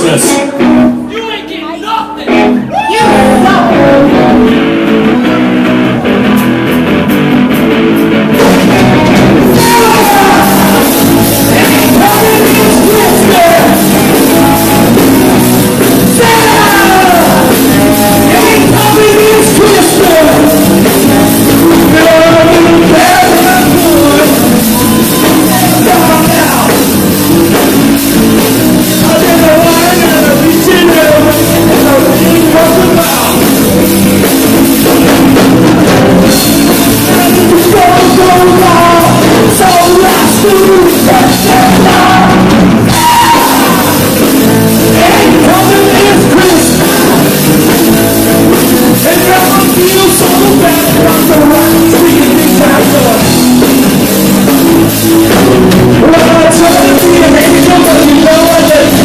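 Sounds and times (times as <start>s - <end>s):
electric guitars: 0.0s - 1.1s, 2.0s - 59.0s
drum kit: 0.0s - 1.4s, 2.0s - 59.0s
man singing: 0.0s - 6.1s, 8.6s - 59.0s
bass guitar: 0.0s - 59.0s.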